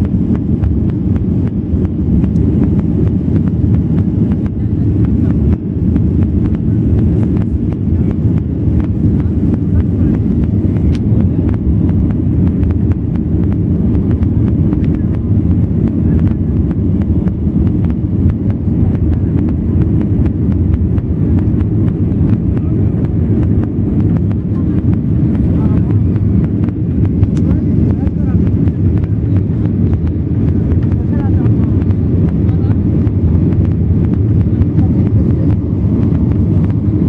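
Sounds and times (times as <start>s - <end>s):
jet engine roar in cabin: 0.0s - 37.0s.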